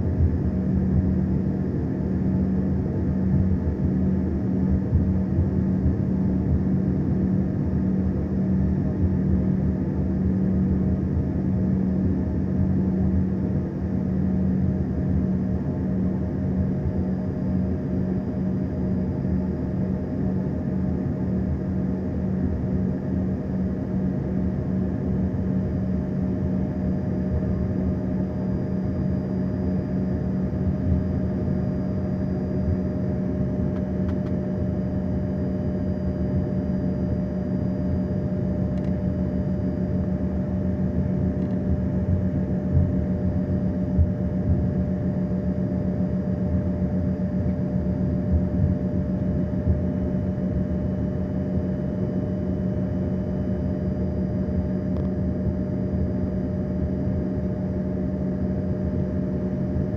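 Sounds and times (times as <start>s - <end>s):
airliner engines humming: 0.0s - 59.9s.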